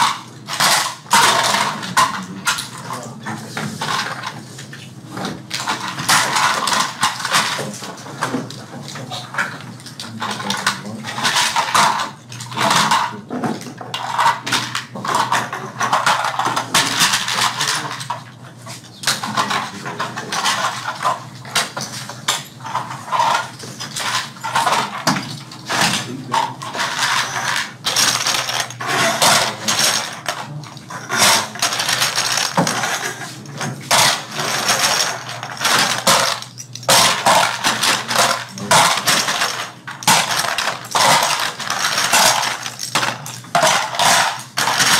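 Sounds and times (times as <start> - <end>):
toy parts clattering and clicking: 0.0 - 4.5, 5.1 - 18.2, 19.0 - 44.9.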